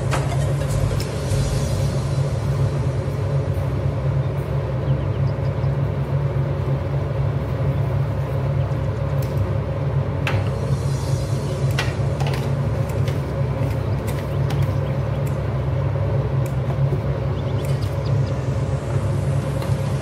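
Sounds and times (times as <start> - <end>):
gas stove rumbling: 0.0 - 20.0.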